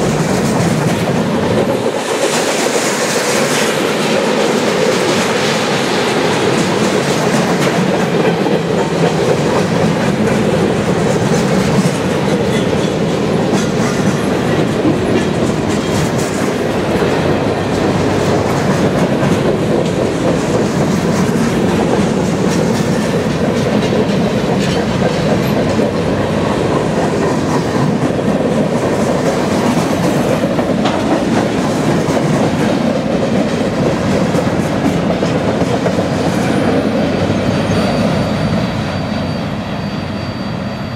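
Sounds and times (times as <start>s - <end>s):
wheels clacking over rail joints: 0.0s - 38.2s
freight train wheels rumbling: 0.0s - 40.9s.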